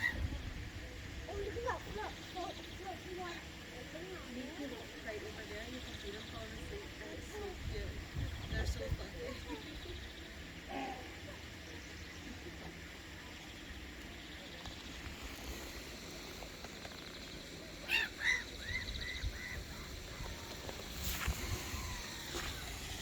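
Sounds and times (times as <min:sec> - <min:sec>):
bird calling: 0:00.0 - 0:00.5, 0:01.3 - 0:23.0
outdoor background noise: 0:00.0 - 0:23.0.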